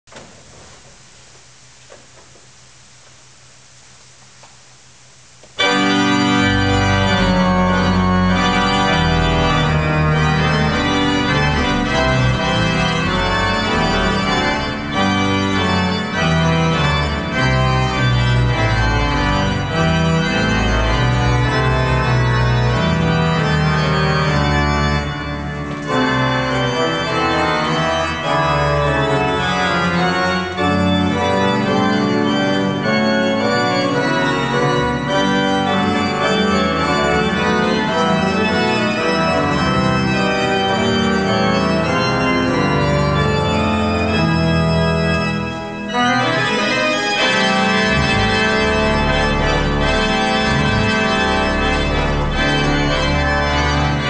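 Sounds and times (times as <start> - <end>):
pipe organ playing full chords: 5.1 - 54.0.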